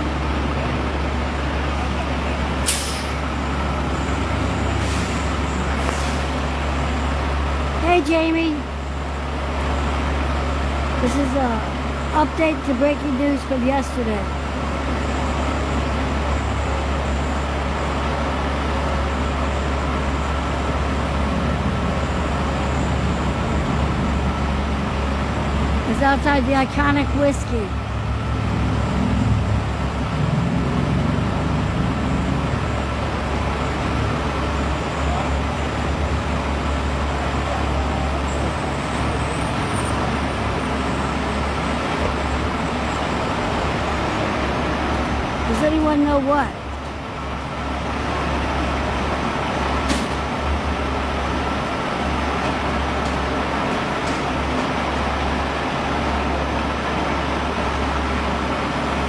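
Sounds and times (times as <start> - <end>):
street traffic: 0.0 - 59.0.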